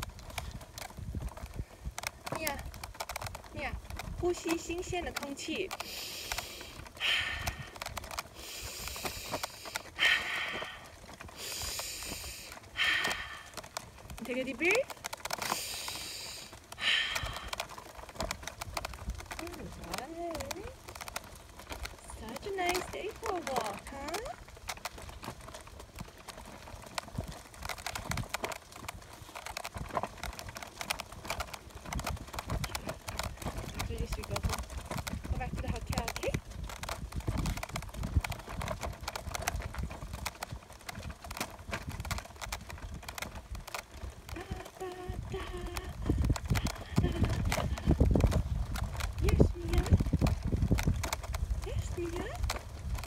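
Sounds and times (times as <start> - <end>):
stroller wheels rolling on trail: 0.0 - 53.0.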